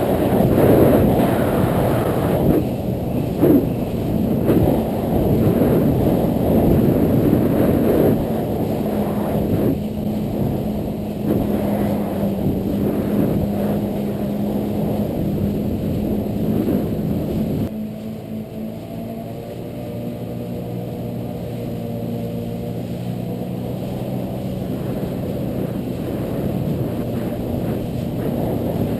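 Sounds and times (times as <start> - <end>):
jet ski engine drone: 0.0 - 28.9
wind and water rushing: 0.0 - 28.9.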